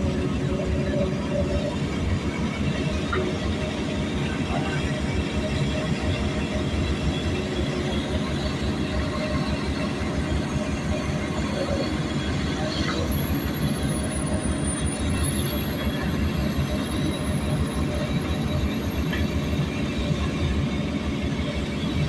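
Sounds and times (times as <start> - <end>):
bulldozer and excavator engines rumbling: 0.0 - 22.0
rattling of tracked machines: 0.0 - 22.0.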